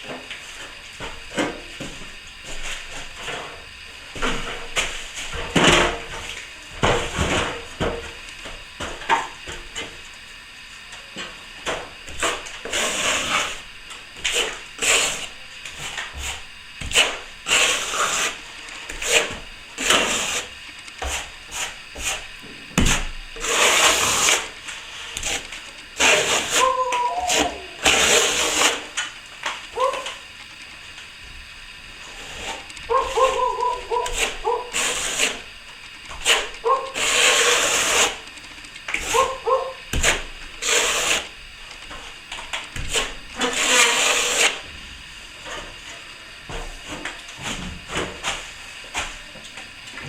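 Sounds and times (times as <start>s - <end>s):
plastering tool scraping plaster: 0.1s - 10.0s, 11.6s - 29.1s, 32.0s - 49.2s.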